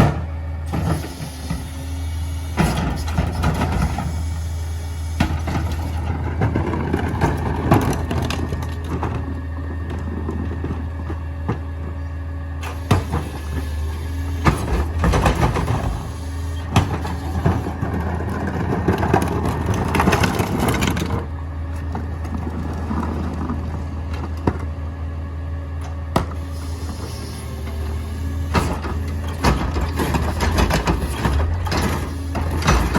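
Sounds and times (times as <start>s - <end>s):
garbage truck engine running: 0.0s - 32.9s
trash crunching and cracking: 5.2s - 24.8s, 25.8s - 32.9s.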